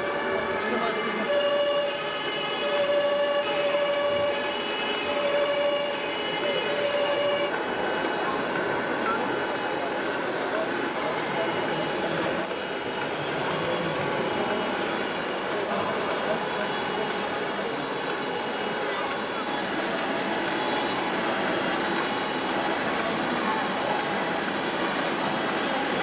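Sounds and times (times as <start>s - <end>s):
murmur of crowd voices: 0.0s - 26.0s.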